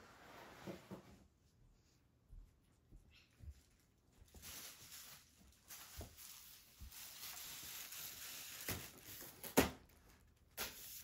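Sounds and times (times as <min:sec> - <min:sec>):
shuffling and rustling: 0:00.0 - 0:09.3.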